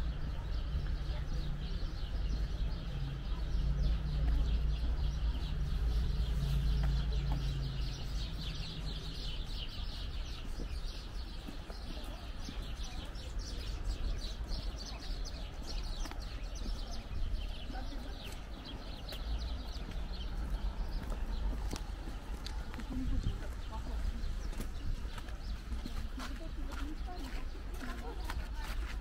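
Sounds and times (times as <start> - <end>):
birds chirping: 0.0 - 29.0
low street rumble: 0.0 - 29.0.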